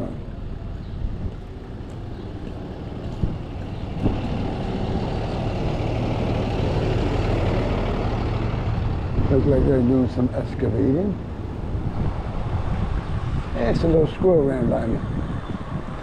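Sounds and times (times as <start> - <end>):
engine low drone: 0.0 - 16.0.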